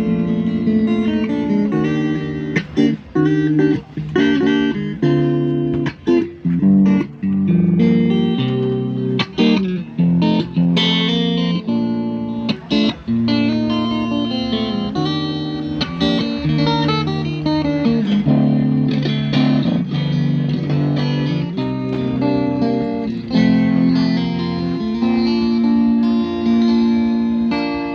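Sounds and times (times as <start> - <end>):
guitar plucked notes and chords: 0.0 - 27.9.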